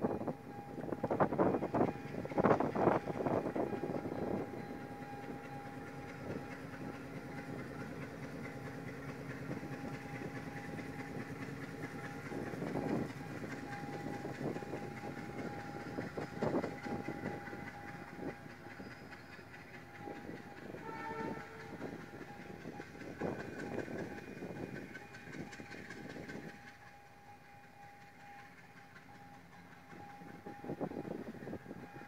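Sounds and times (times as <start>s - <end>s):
diesel locomotive engine running: 0.0s - 32.0s
wheels clattering on rail: 0.0s - 32.0s.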